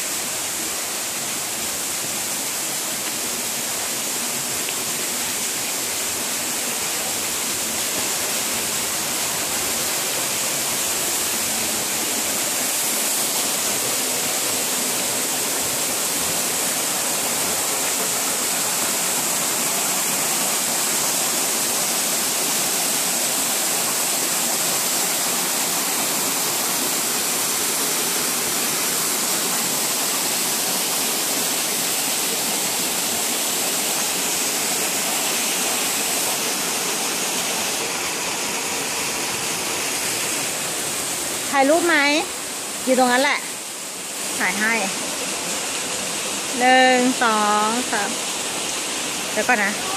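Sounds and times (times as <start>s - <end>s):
waterfall roaring: 0.0s - 49.9s.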